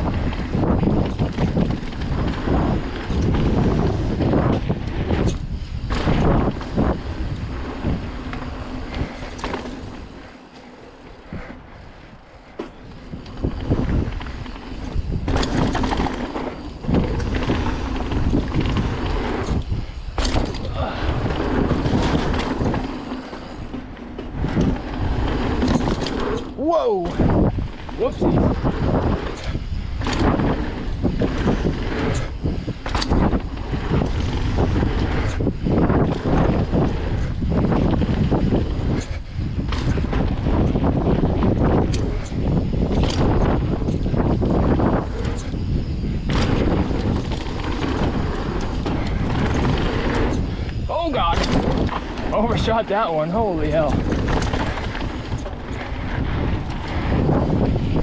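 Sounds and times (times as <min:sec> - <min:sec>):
bike rattling on bumps: 0:00.0 - 0:58.0
tyres crunching over dirt trail: 0:00.0 - 0:58.0
wind buffeting microphone: 0:00.0 - 0:58.0.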